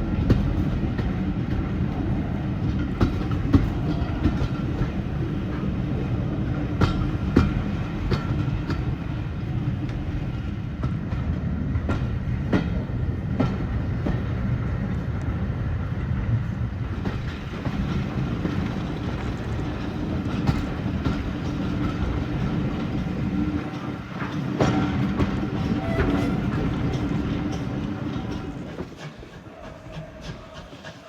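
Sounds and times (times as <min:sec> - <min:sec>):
wheels clacking over rail joints: 0:00.0 - 0:14.4, 0:16.8 - 0:31.0
railway carriage rumble: 0:00.0 - 0:31.0.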